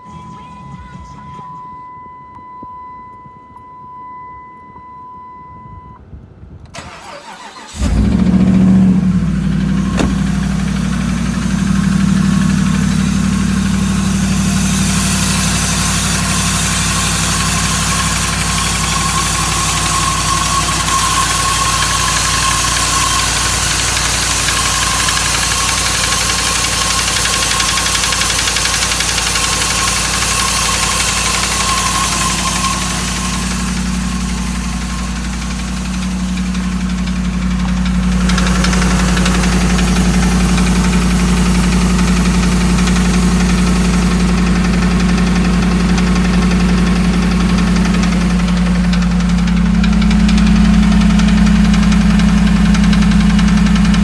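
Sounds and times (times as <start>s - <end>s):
engine running with knocking: 7.2s - 54.0s.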